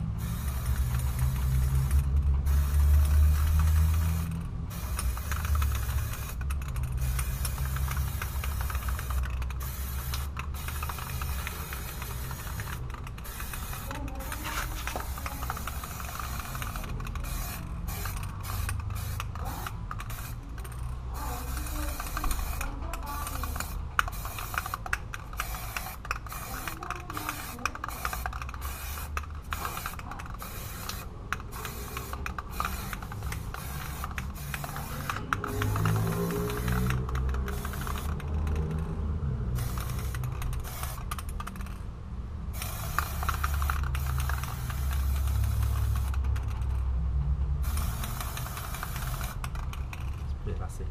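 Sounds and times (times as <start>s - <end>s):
spray paint can hissing: 0.0s - 41.8s, 42.5s - 46.8s, 47.6s - 50.3s.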